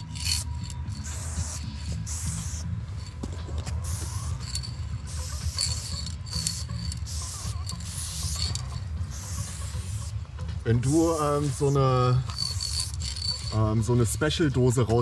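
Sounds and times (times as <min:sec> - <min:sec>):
spray paint can hissing: 0:00.0 - 0:10.2, 0:10.8 - 0:14.2.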